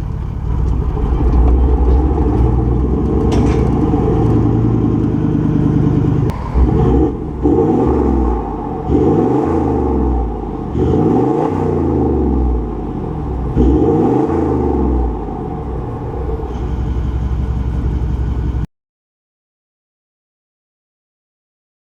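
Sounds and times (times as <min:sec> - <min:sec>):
diesel engine idling and revving: 0:00.0 - 0:18.7.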